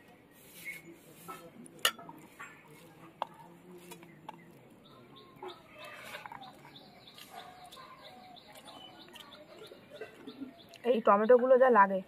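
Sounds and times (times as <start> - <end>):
fingers mixing rice on steel plate: 0.5 - 10.8.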